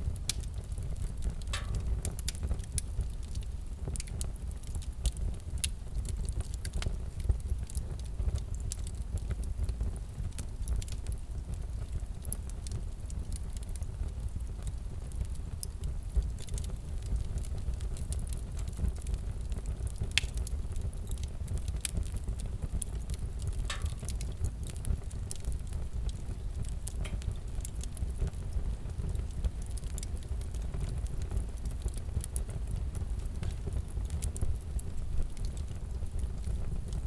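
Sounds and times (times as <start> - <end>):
fireplace crackling: 0.0 - 37.0.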